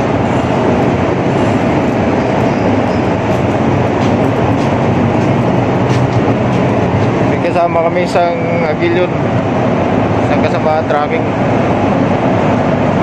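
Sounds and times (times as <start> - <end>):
loud machinery rumble and hum: 0.0 - 13.0.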